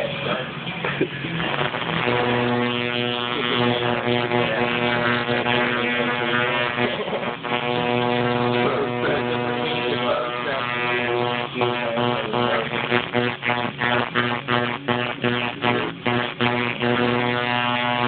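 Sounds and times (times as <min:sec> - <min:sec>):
tattoo machine buzzing: 0:01.4 - 0:18.0.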